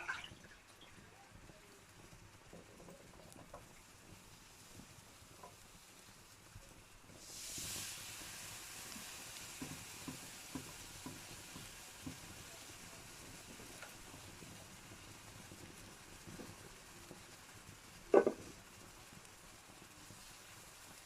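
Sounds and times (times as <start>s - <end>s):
fire hissing: 0.0s - 21.0s
wood fire crackling and popping: 0.0s - 21.0s.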